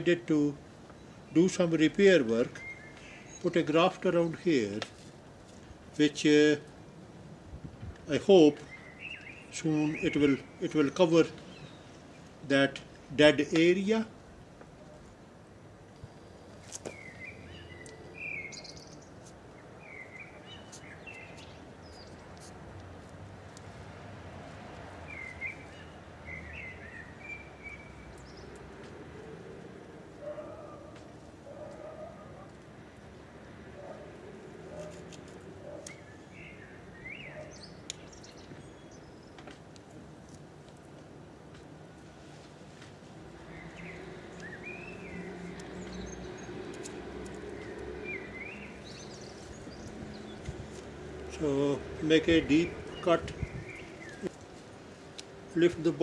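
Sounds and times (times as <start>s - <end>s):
birds chirping: 0.0s - 4.8s, 8.1s - 14.1s, 16.0s - 22.4s, 25.0s - 40.0s, 43.0s - 56.0s
outdoor background noise: 0.0s - 56.0s.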